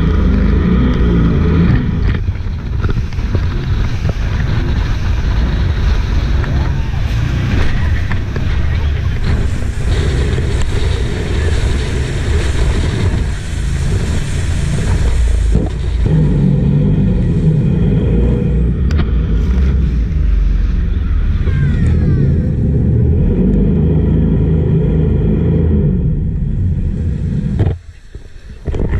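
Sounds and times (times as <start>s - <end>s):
boat engine running: 0.0s - 28.9s.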